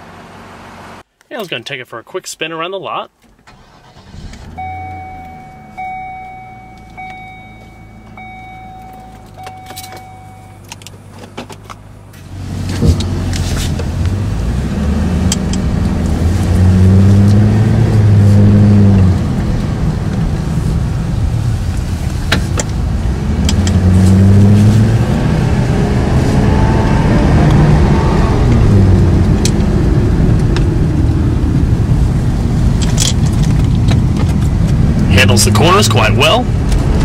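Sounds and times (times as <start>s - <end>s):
car engine accelerating: 3.5s - 37.0s.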